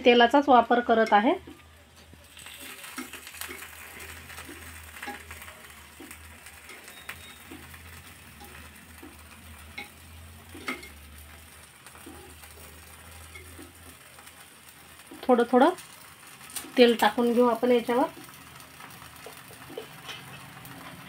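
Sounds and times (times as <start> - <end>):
oil sizzling in a pan: 0.0 - 21.0.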